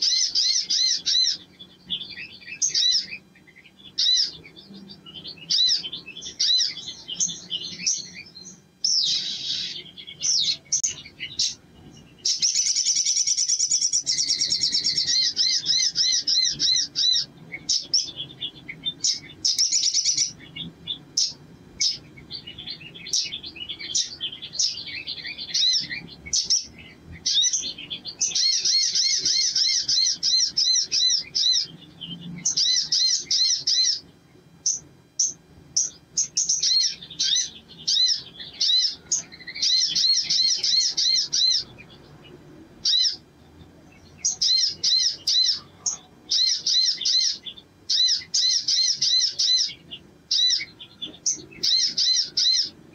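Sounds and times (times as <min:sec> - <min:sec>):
sharp bird chirps: 0:00.0 - 0:43.2
sunbird trilling: 0:00.0 - 0:43.3, 0:43.9 - 0:52.8.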